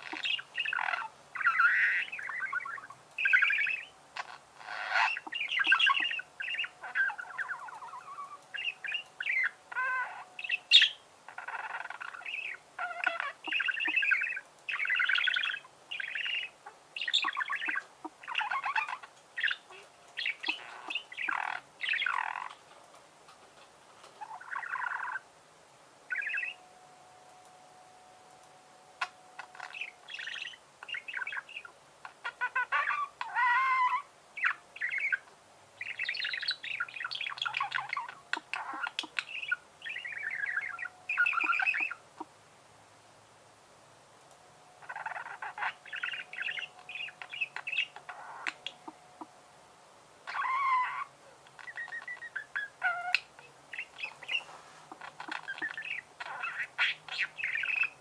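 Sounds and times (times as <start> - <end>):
budgerigars chattering and warbling: 0.0 - 22.6, 24.2 - 25.2, 26.1 - 26.6, 29.0 - 42.3, 44.8 - 49.3, 50.3 - 58.0.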